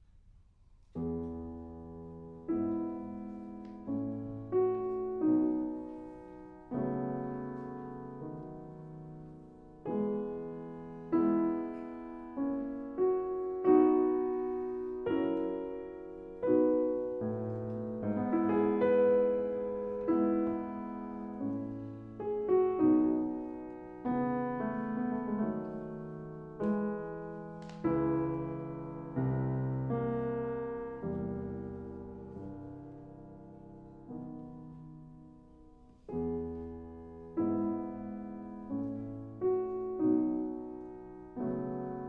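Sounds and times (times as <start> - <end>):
slow piano music: 0.0 - 42.0.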